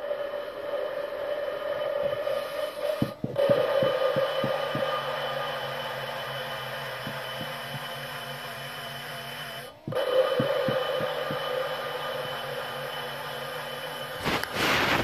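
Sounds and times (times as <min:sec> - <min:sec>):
electric drill humming: 0:01.5 - 0:15.0.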